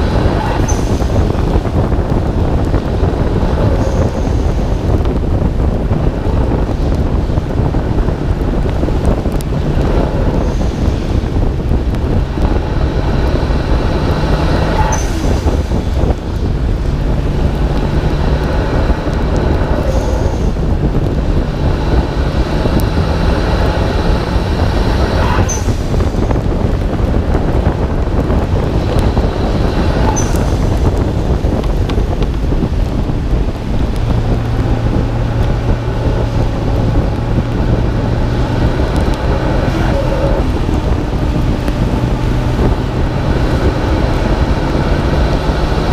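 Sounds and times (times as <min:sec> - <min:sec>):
car engine running: 0:00.0 - 0:45.9
wind and road rush: 0:00.0 - 0:45.9.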